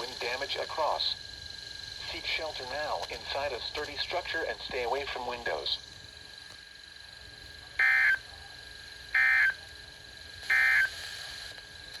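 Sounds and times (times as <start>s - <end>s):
buzzy digital data bursts: 0.0s - 8.3s, 8.9s - 11.5s.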